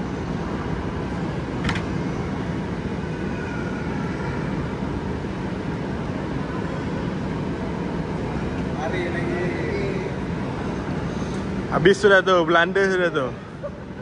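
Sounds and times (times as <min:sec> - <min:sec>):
busy shopping mall din: 0:00.0 - 0:14.0.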